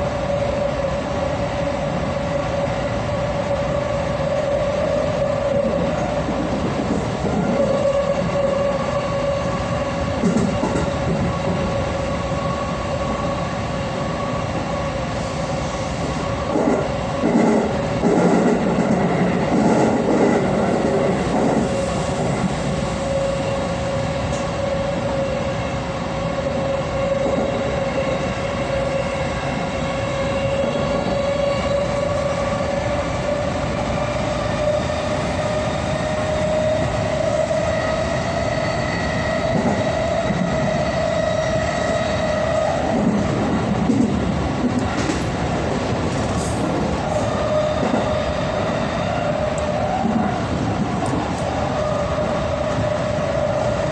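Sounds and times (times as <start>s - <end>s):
train running on rails: 0.0s - 53.9s.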